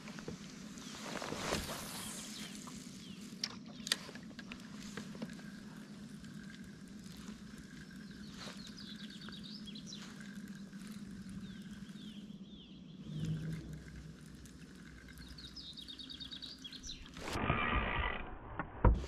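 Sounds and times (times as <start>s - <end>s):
songbird singing: 0.0s - 17.3s.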